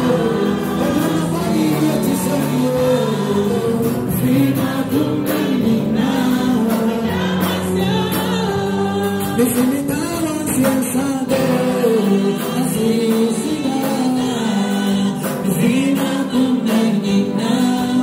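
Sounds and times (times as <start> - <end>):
backing choir singing: 0.0 - 9.8, 11.1 - 18.0
band accompaniment: 0.0 - 18.0
man singing lead: 0.0 - 18.0.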